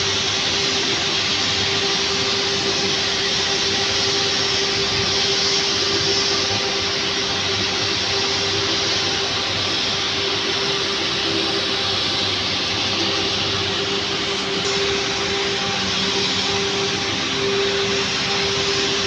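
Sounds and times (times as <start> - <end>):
constant low hum: 0.0 - 19.0
power plant machinery roar: 0.0 - 19.0.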